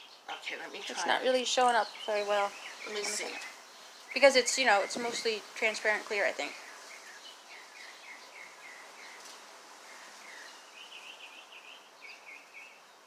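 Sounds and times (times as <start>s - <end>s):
outdoor hiss: 0.0s - 13.0s
songbird singing: 0.0s - 13.0s.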